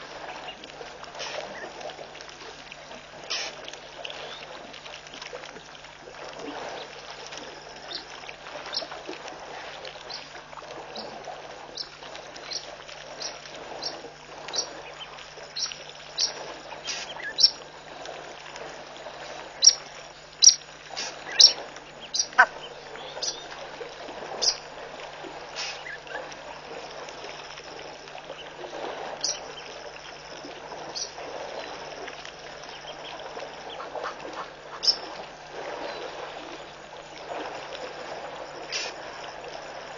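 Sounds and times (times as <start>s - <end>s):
low steady hum: 0.0s - 39.9s
water sloshing from elephants drinking: 0.0s - 39.9s.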